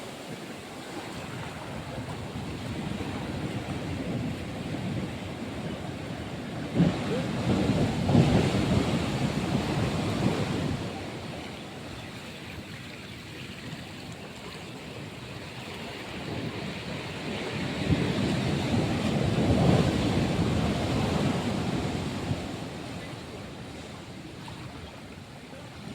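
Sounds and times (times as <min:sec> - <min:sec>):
ocean waves washing up beach: 0:00.0 - 0:25.9.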